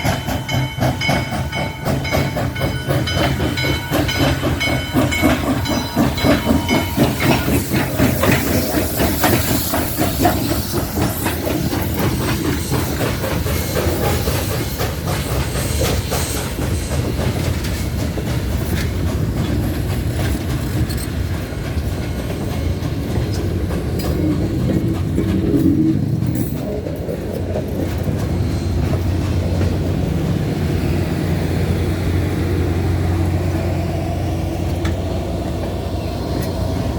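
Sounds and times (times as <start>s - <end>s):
steam hiss: 0.0s - 36.9s
steam locomotive exhaust pulsing: 0.0s - 36.9s
train rolling on rails: 0.0s - 36.9s.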